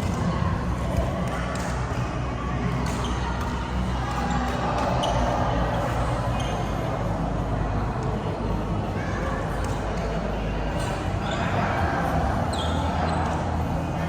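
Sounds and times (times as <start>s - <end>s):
sports hall hubbub: 0.0s - 14.0s.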